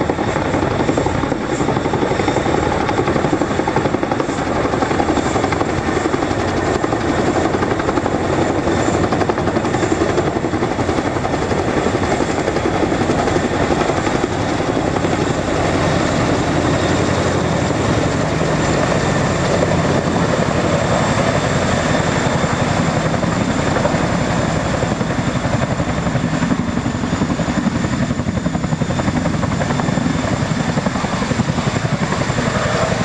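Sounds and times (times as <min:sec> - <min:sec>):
helicopter rotors chopping: 0:00.0 - 0:33.0.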